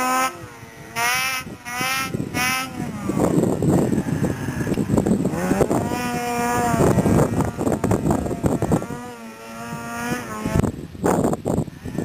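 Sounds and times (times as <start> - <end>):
snowmobile engines revving: 0.0 - 12.0
wind buffeting microphone: 0.0 - 12.0.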